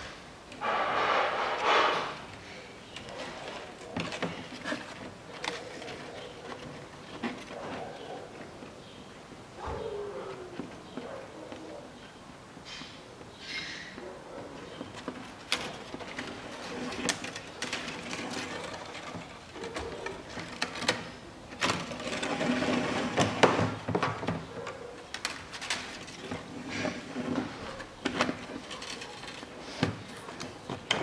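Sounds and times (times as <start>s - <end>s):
wire scraping through plastic: 0.6s - 9.0s, 14.6s - 31.0s.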